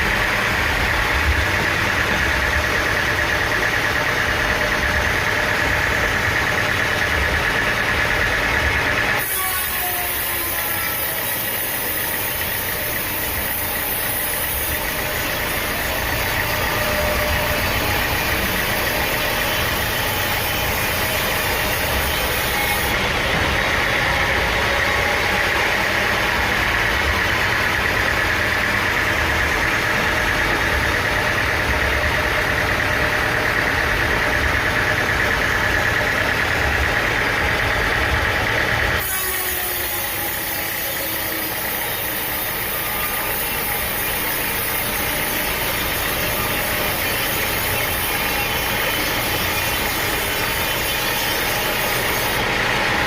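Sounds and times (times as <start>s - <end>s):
high machinery whine: 0.0s - 53.0s
sawmill engine drone: 0.0s - 53.0s.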